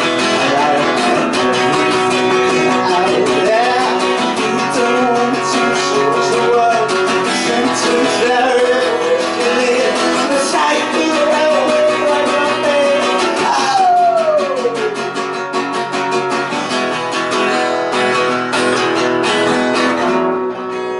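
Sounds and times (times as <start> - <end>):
sliding melody line: 0.0 - 20.4
acoustic guitar strumming: 0.0 - 20.9.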